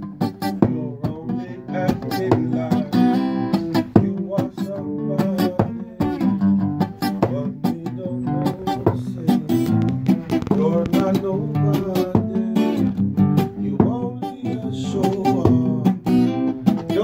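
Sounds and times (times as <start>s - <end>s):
acoustic guitars strumming chords: 0.0s - 17.0s.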